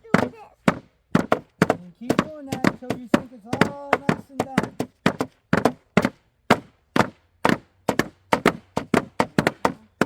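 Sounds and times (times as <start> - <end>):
hammers pounding on hard surface: 0.0 - 10.0.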